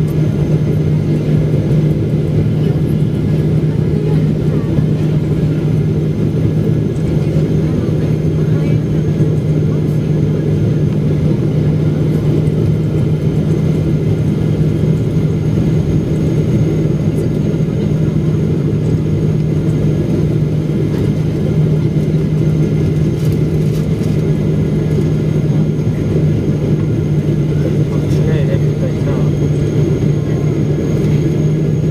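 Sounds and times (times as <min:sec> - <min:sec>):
airplane cabin engine hum: 0:00.0 - 0:31.9.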